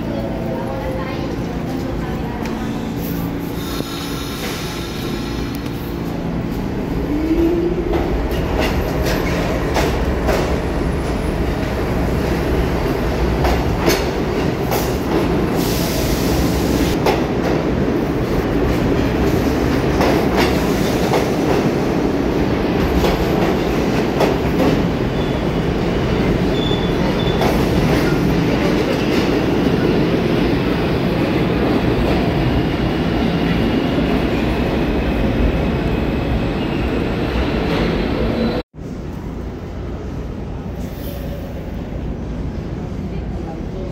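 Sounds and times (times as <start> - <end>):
subway train rumble: 0.0 - 43.9.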